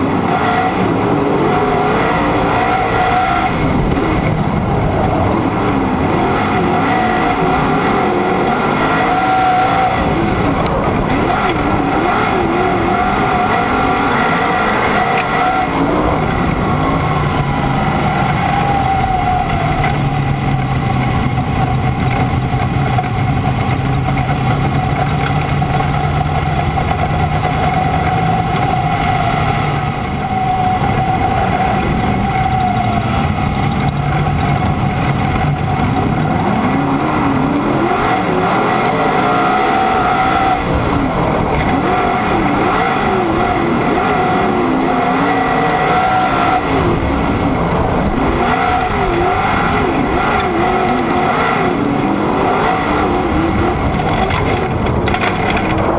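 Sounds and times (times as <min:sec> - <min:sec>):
engine throttle blips: 0:00.0 - 0:55.9
race car engine running: 0:00.0 - 0:55.9.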